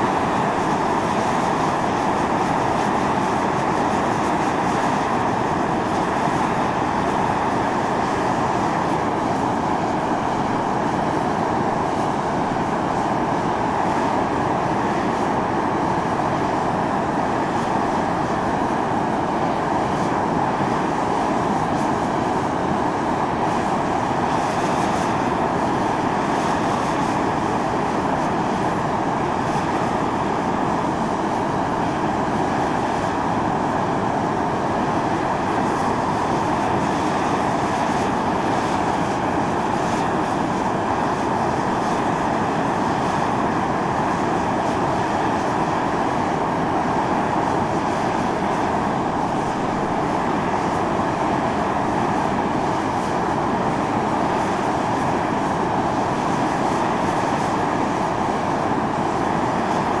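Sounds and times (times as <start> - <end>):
fumarole venting steam: 0.0 - 60.0.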